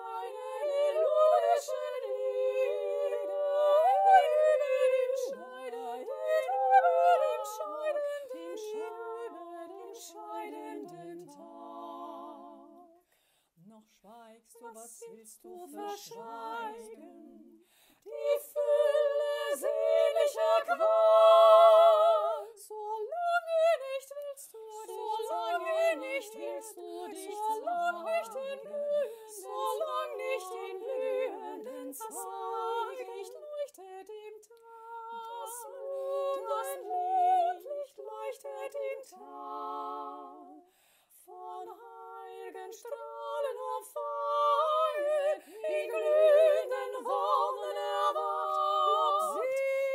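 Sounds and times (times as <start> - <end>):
woman singing layered harmonies: 0.0 - 49.9.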